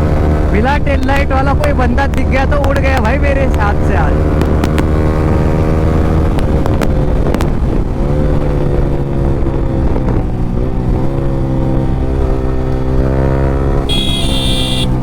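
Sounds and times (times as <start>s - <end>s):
motorcycle engine at high revs: 1.6s - 15.0s.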